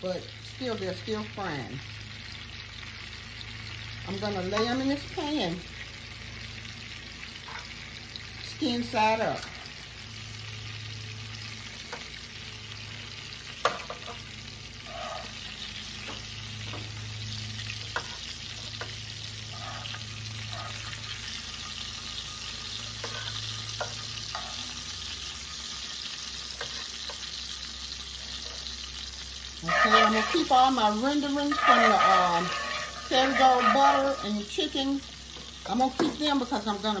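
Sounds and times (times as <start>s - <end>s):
chicken sizzling in skillet: 0.0s - 37.0s.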